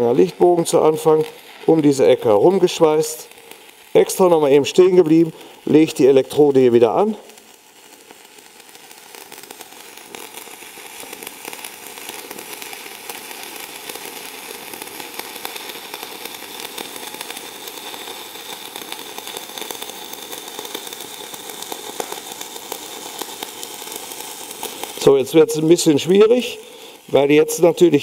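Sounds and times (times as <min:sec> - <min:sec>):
welding arc crackling: 0:00.0 - 0:28.0.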